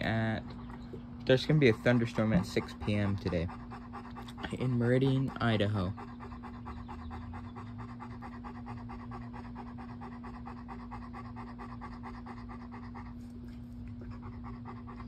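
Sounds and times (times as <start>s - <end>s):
dog panting: 0.0s - 15.0s
steady low hum: 0.0s - 15.0s.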